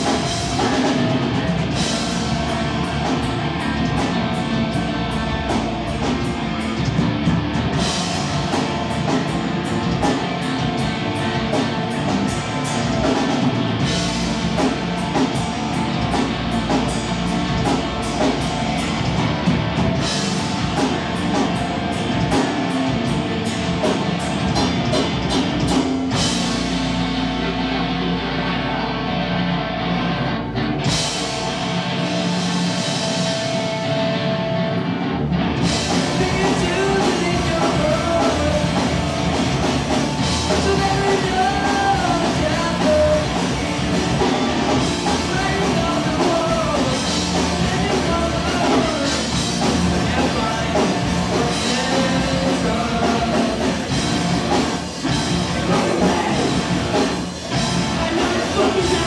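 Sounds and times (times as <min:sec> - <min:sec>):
live heavy rock band: 0:00.0 - 0:59.0.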